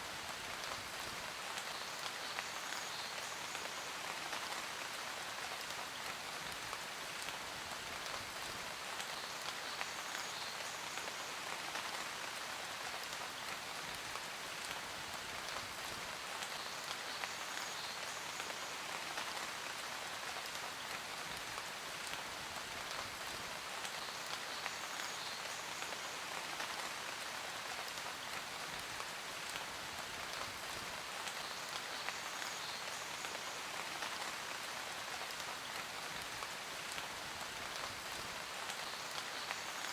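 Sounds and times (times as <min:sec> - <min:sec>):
steady rain falling: 0:00.0 - 0:39.9
raindrops ticking on a surface: 0:00.1 - 0:39.9.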